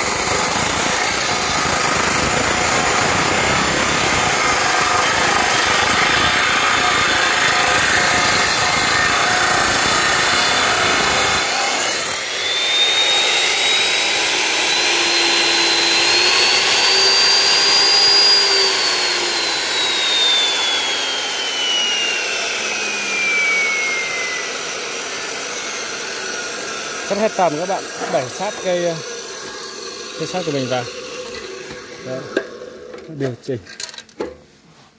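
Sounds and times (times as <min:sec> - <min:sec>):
saw motor whine: 0:00.0 - 0:33.1
abrasive saw grinding through steel: 0:00.0 - 0:33.3.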